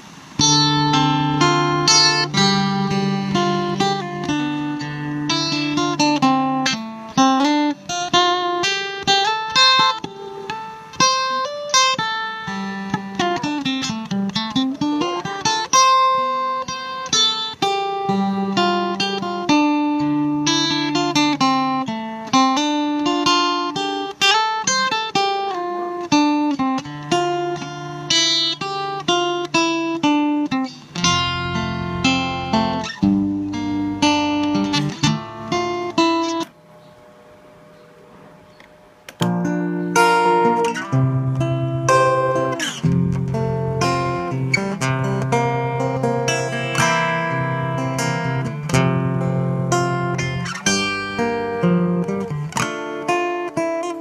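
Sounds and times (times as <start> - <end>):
acoustic guitar music through speaker: 0.0 - 54.0.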